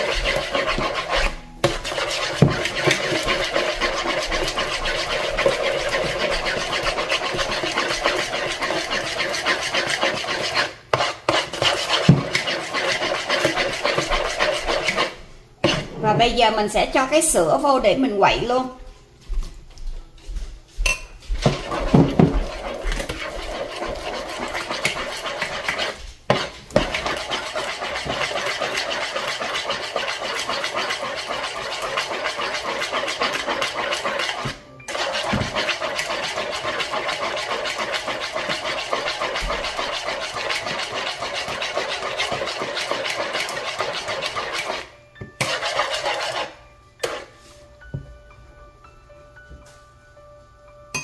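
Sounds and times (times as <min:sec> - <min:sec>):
rapid beating in mixing bowl: 0:00.0 - 0:16.4, 0:21.3 - 0:47.3.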